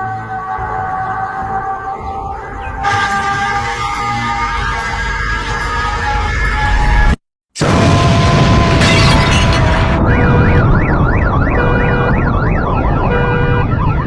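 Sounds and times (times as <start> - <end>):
siren yelping: 0.0 - 14.0.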